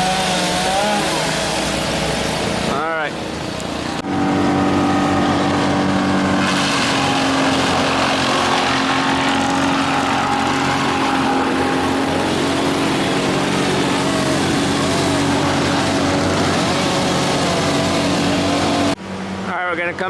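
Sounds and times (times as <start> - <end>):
small petrol engine running: 0.0 - 19.0.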